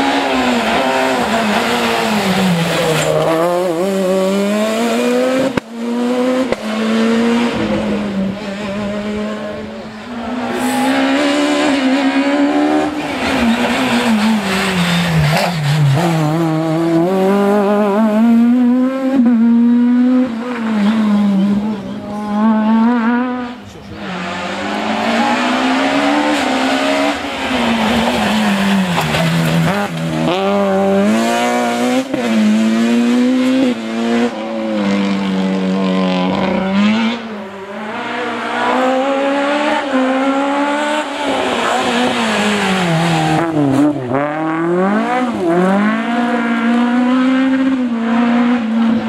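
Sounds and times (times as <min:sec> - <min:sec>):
rally car engine revving hard: 0:00.0 - 0:49.0.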